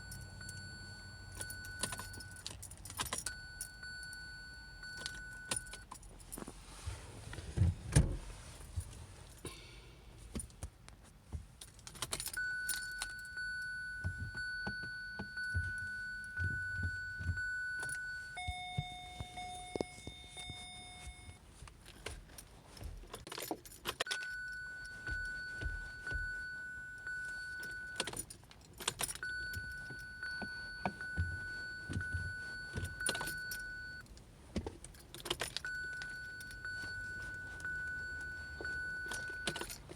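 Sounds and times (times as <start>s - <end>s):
car keys jangling: 0.0s - 9.5s, 10.2s - 39.9s.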